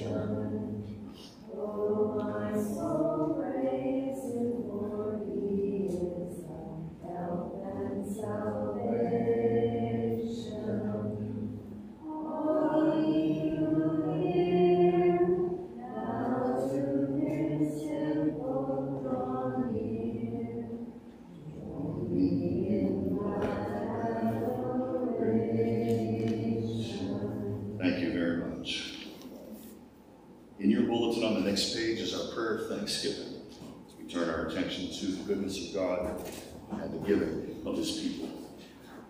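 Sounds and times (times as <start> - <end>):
congregation singing a hymn: 0.0 - 29.8, 30.6 - 39.0.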